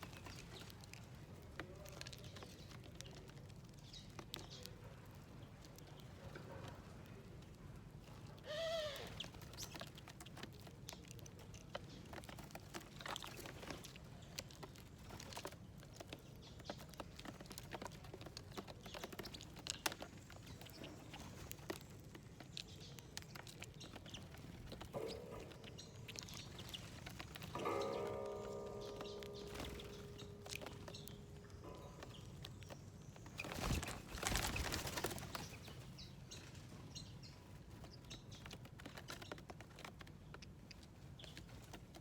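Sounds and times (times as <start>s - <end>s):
birds pecking at seeds: 0.0s - 42.0s.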